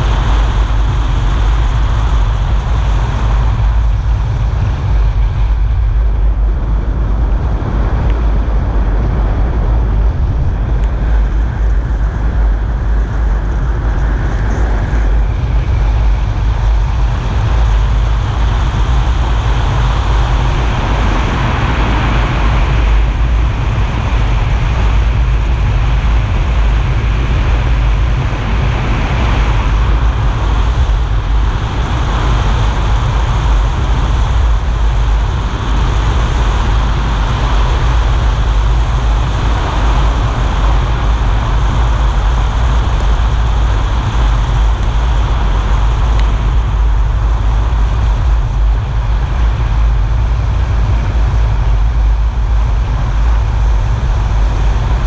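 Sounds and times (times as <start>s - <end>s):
car driving on wet road: 0.0s - 55.0s.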